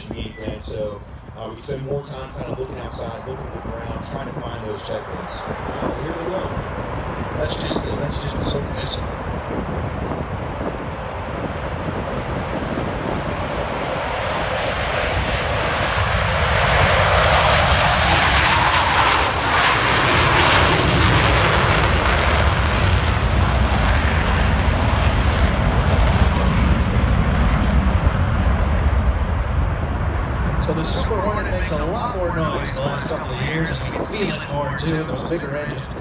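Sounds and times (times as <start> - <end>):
jet engines roaring on takeoff: 0.0 - 36.0.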